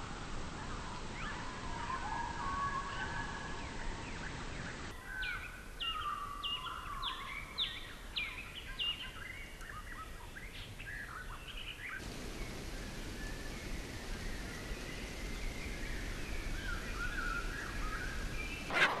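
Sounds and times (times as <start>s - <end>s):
background hiss: 0.0s - 19.0s
wild birds chirping: 0.5s - 19.0s
lower warbling bird calls: 0.7s - 19.0s.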